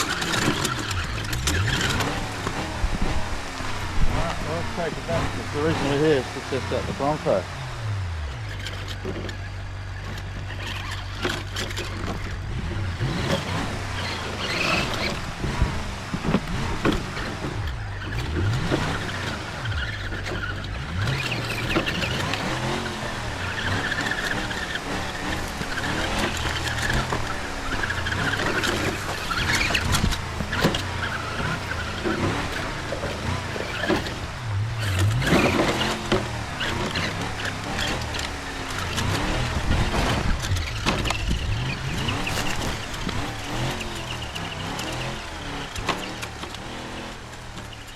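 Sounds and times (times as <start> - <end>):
simulated truck engine revving: 0.0 - 47.9.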